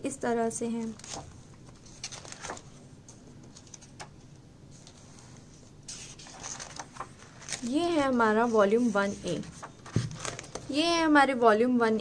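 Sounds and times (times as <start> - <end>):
book pages rustling: 0.7 - 10.8.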